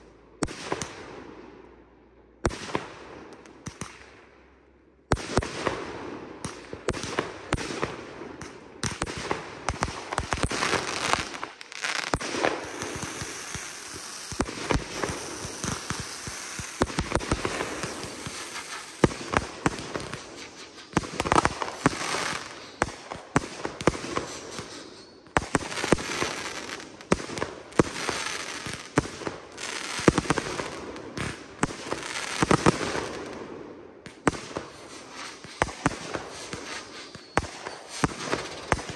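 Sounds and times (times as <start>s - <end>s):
fireworks launching and bursting: 2.4s - 4.2s, 5.1s - 38.9s.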